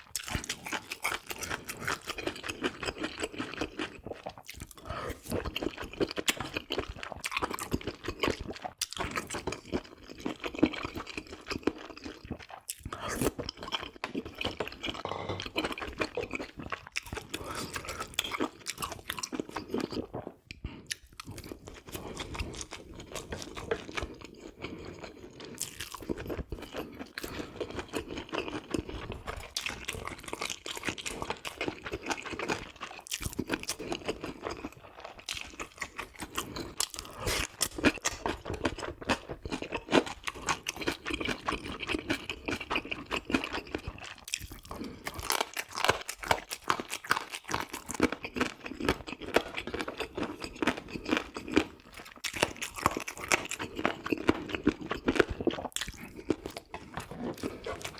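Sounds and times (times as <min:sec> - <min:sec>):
wet crunchy chewing: 0:00.0 - 0:57.9.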